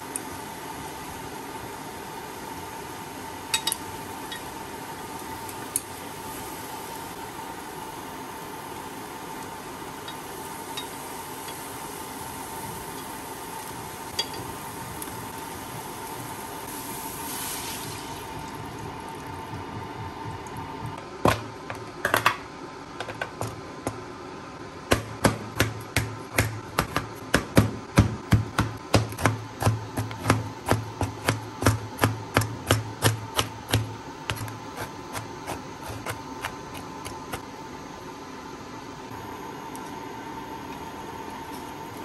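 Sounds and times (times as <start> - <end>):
faint hum: 0.0 - 42.0.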